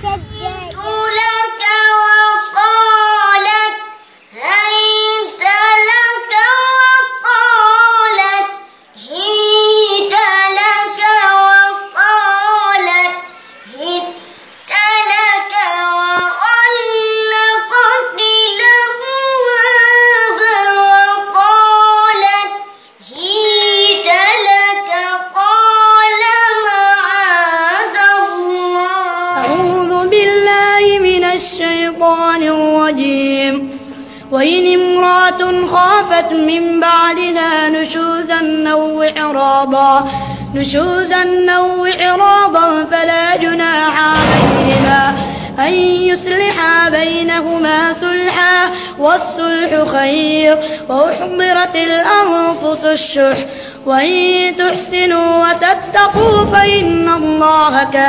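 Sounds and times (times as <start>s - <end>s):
child reciting: 0.0s - 44.2s, 46.1s - 58.0s
girl chanting recitation: 0.0s - 44.2s, 45.8s - 58.0s.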